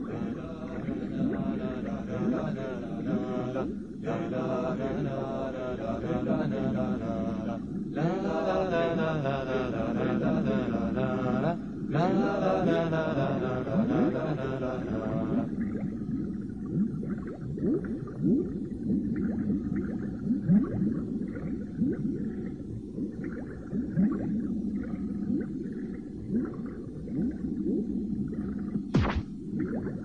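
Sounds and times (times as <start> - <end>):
cartoon bubbling and gurgling: 0.0 - 6.4, 11.9 - 30.0.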